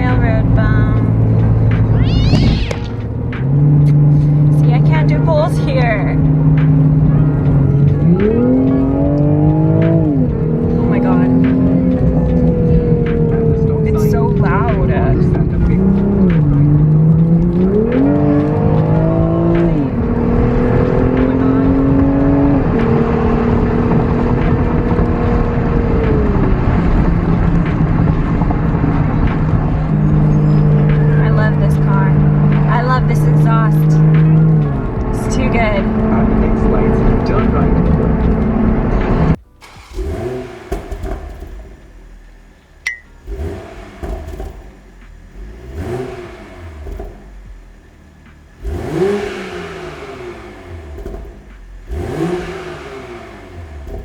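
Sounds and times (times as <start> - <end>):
car engine driving: 0.0 - 54.0
road noise: 0.0 - 54.0.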